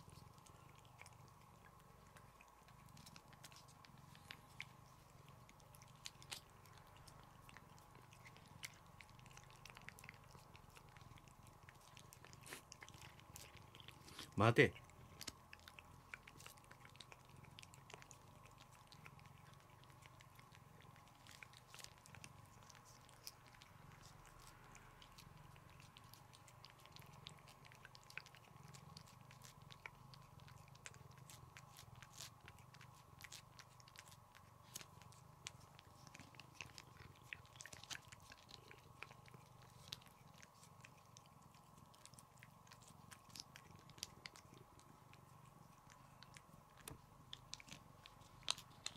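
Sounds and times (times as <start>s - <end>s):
cat licking with wet clicks: 0.1s - 48.9s.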